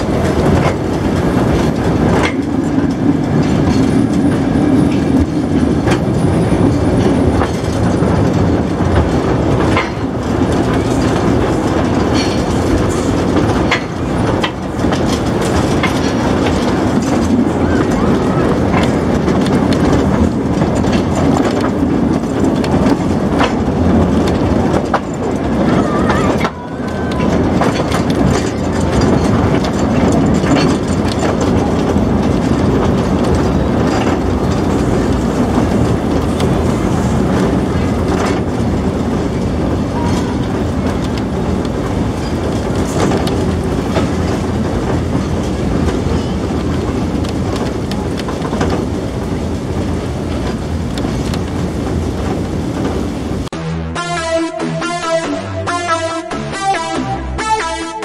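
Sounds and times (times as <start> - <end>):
clickety-clack of rail joints: 0.0 - 53.5
train wheels rumbling on rails: 0.0 - 53.6.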